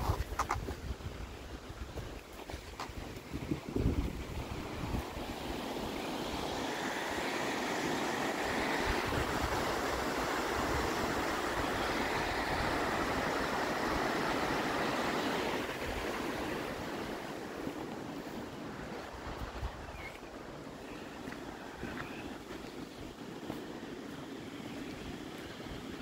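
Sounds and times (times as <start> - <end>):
creek water rushing over rocks: 0.0 - 26.0.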